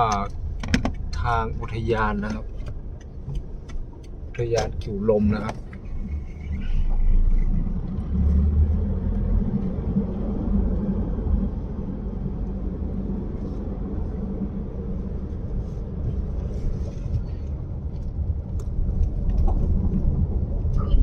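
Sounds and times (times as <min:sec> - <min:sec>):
car engine rumble: 0:00.0 - 0:21.0
road noise: 0:00.0 - 0:21.0.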